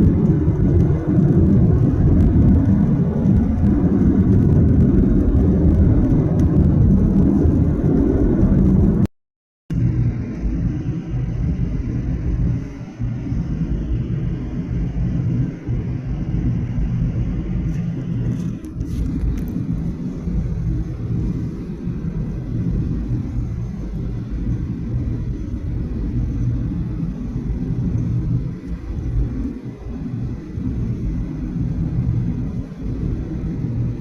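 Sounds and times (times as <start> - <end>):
airliner cabin rumble: 0.0 - 9.1, 9.7 - 34.0.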